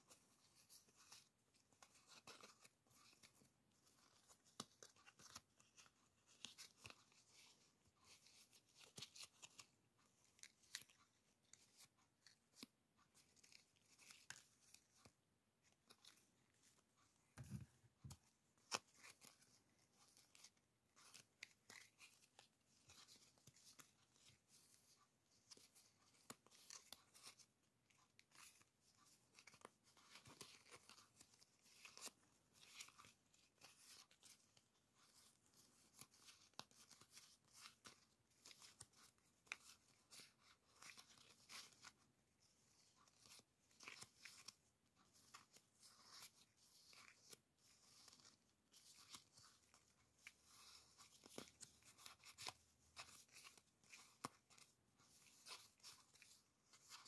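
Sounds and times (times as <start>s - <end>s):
paper stickers rustling: 0.0s - 57.0s.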